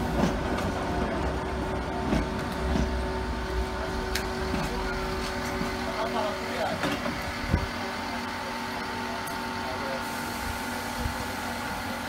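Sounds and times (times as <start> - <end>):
tram rumbling past: 0.0 - 9.8.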